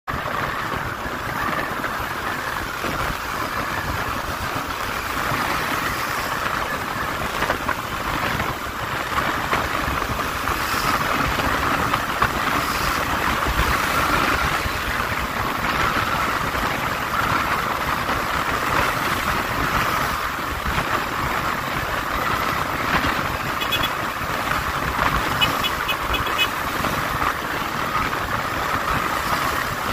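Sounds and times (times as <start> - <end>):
wind and road noise: 0.0 - 29.9
motorcycle engine running: 0.1 - 29.9.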